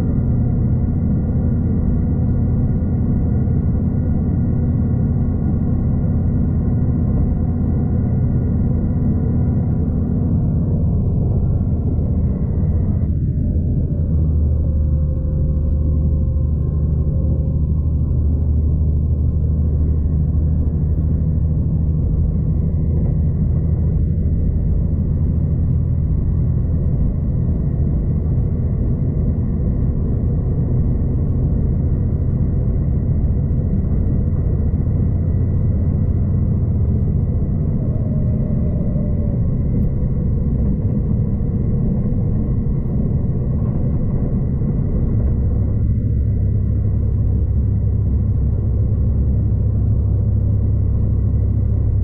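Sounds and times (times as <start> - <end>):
train rumble inside carriage: 0.0 - 52.0.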